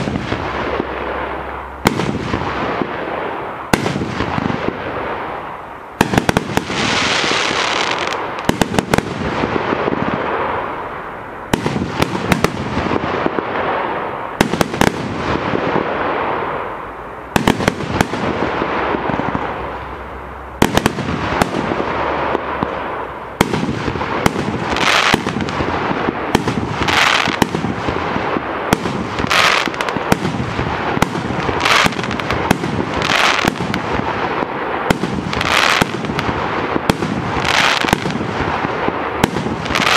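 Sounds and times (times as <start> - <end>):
fireworks crackle and hiss: 0.0 - 39.9
fireworks launch and burst bangs: 0.0 - 39.9.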